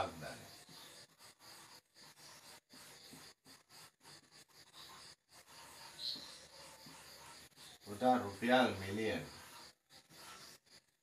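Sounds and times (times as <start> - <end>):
marker on whiteboard: 0.6 - 11.0.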